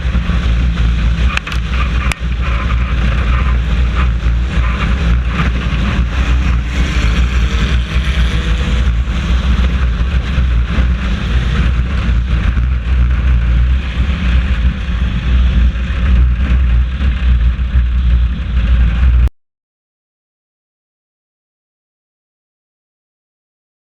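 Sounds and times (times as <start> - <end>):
race car engine rumbling: 0.0 - 19.3
road and wind noise: 0.0 - 19.3.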